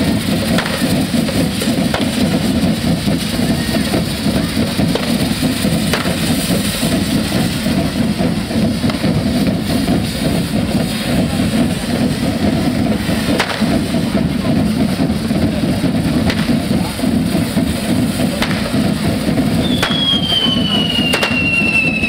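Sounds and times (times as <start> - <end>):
dense steady din: 0.0 - 22.0
firecracker bangs: 0.0 - 22.0
whistling firework: 0.0 - 22.0.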